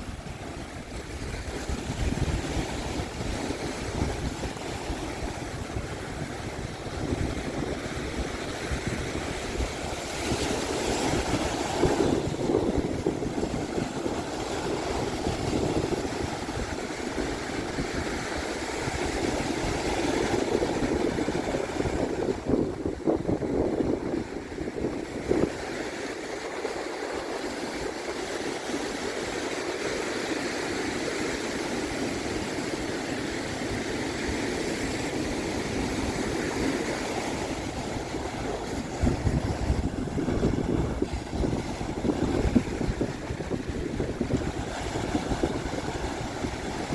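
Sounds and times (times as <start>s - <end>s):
ocean surf washing onto beach: 0.0s - 46.9s
wind buffeting microphone: 0.0s - 46.9s.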